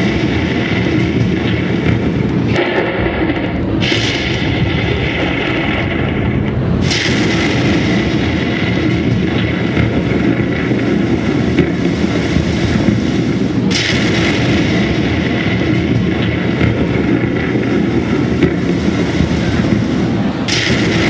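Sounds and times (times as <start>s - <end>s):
crackling thunder crash: 0.0s - 21.0s
rumbling thunder over loudspeakers: 0.0s - 21.0s.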